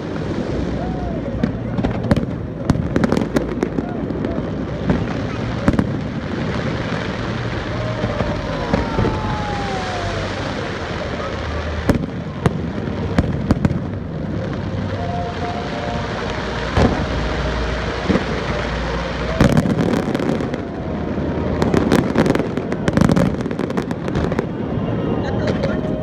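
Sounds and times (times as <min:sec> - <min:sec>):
fireworks cracks and pops: 0:00.0 - 0:24.6.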